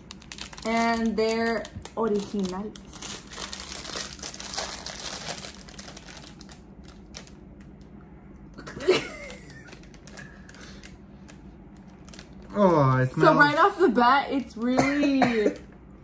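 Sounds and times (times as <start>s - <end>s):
foil chip bag crinkling: 0.0s - 8.0s, 8.6s - 14.8s.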